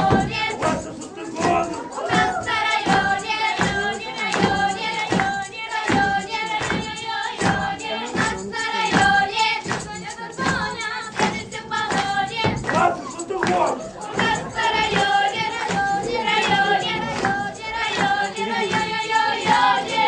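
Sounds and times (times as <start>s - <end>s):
group of voices singing: 0.0s - 20.0s
music with steady beat: 0.0s - 20.0s.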